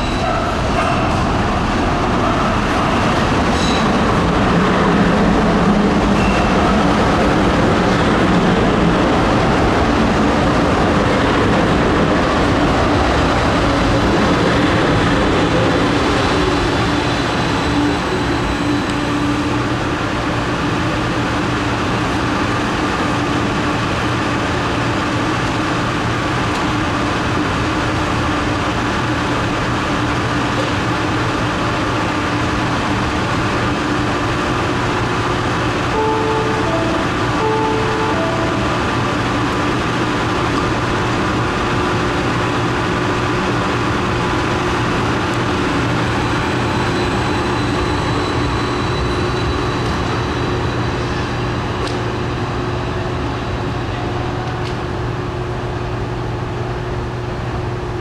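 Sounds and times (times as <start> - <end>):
train equipment humming: 0.0 - 58.0
train slowing to a stop: 0.0 - 58.0.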